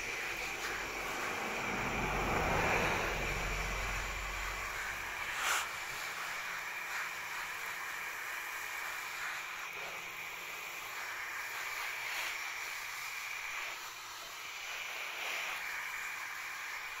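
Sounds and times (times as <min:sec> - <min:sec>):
hose nozzle spraying water: 0:00.0 - 0:17.0.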